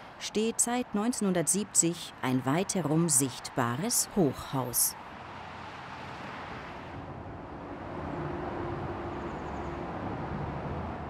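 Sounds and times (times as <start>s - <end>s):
rush of passing cars and trucks: 0.0s - 11.0s.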